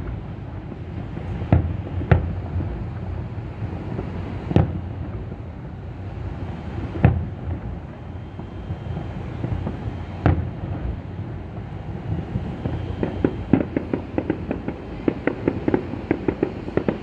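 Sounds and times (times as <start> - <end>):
fireworks bangs: 0.0 - 17.0
wind on microphone: 0.0 - 17.0.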